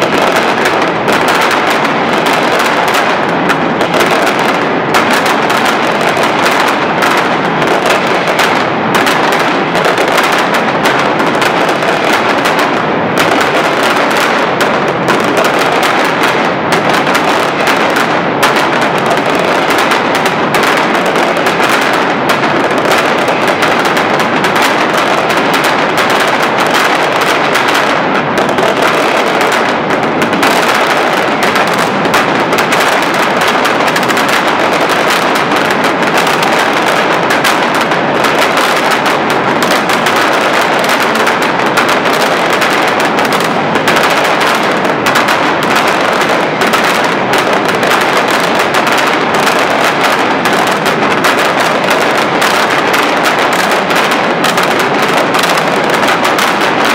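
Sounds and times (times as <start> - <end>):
firecrackers crackling barrage: 0.0 - 56.9.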